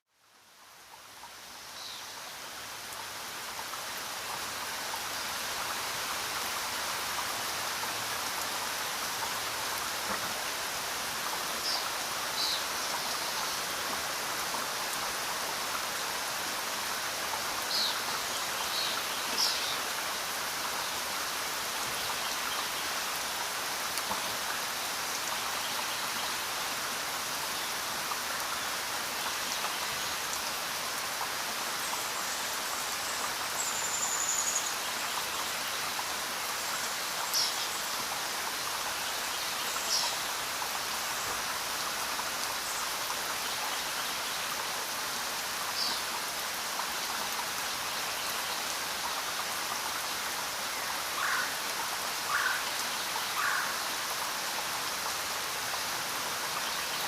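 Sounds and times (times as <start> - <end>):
steady rain falling: 0.1 - 57.0.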